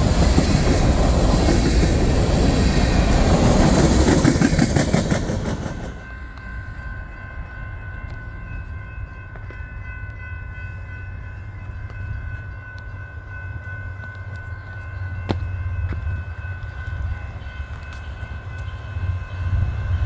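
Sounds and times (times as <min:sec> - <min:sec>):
train passing with wheel clacking: 0:00.0 - 0:20.0.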